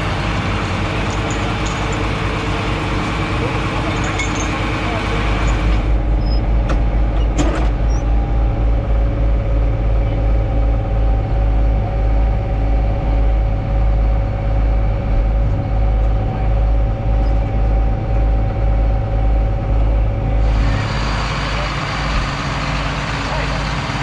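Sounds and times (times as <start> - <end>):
heavy vehicle engine throbbing: 0.0 - 24.0
steady engine whine: 0.0 - 24.0.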